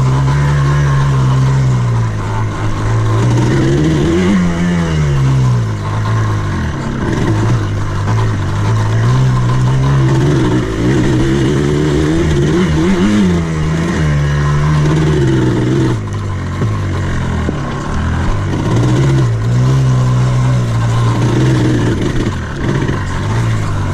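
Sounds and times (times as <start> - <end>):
buggy engine revving: 0.0 - 23.9.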